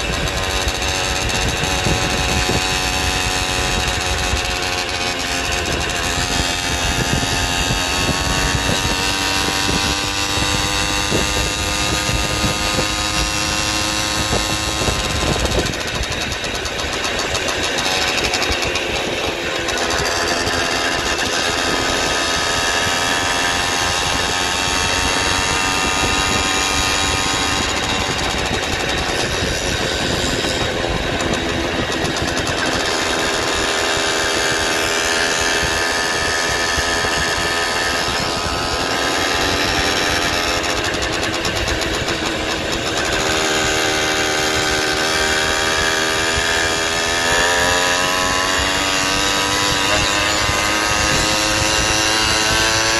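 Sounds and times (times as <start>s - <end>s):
small engine running: 0.0s - 52.9s
wind rushing over microphone: 0.0s - 52.9s.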